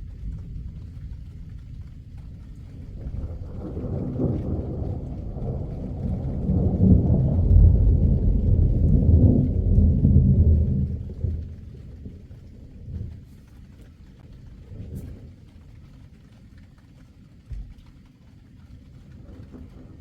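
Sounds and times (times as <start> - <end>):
thunder rumbling: 0.0 - 20.0.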